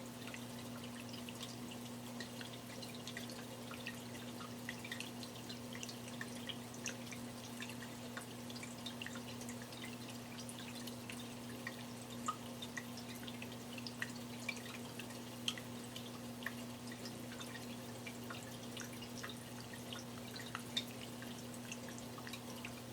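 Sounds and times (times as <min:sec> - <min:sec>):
water trickling and dripping: 0:00.0 - 0:22.9.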